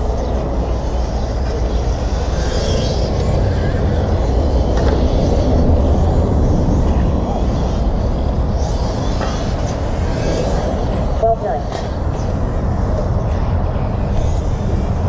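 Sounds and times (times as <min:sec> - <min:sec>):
rc car motors whining: 0:00.0 - 0:15.0
steady low rumble: 0:00.0 - 0:15.0.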